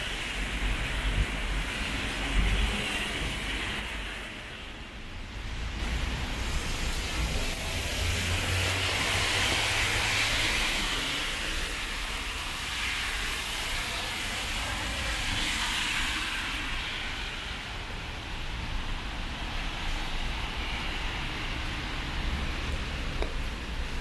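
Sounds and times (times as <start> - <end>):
tyres hissing on wet road: 0.0 - 24.0.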